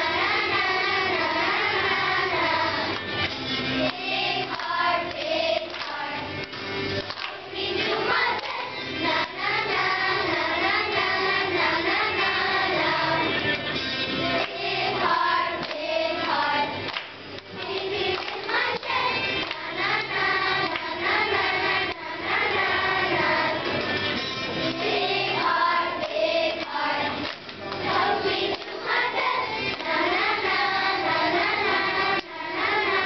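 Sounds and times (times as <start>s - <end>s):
children's choir singing: 0.0s - 6.4s, 7.0s - 33.0s.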